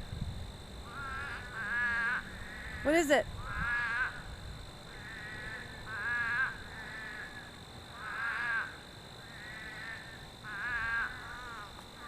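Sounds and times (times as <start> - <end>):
frogs calling: 0.7 - 12.0.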